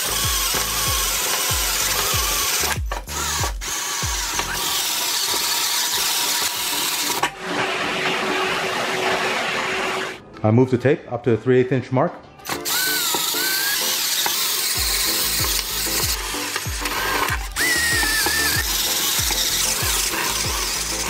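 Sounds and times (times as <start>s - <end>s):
drill boring through sheet metal: 0.0s - 10.2s, 12.5s - 21.0s
vacuum cleaner running: 0.0s - 10.2s, 12.5s - 21.0s.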